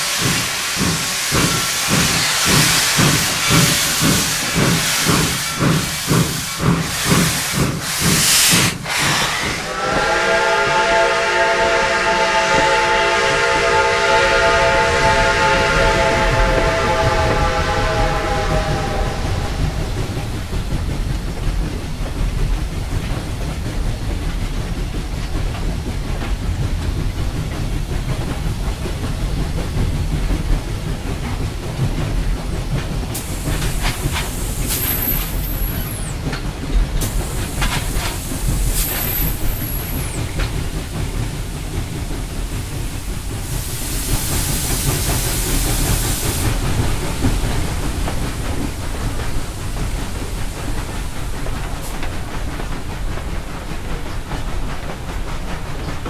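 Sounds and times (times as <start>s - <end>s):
steam hiss: 0.0s - 20.8s, 27.1s - 56.0s
train wheels rumbling on rail: 0.0s - 56.0s.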